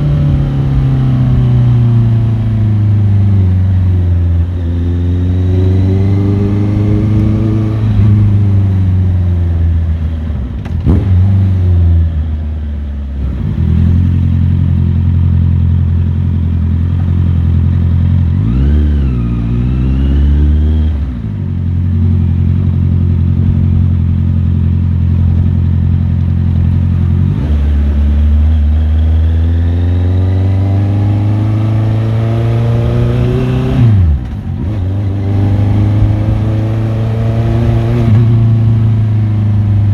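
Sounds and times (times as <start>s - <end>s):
motorcycle engine running: 0.0s - 12.3s, 12.9s - 39.9s.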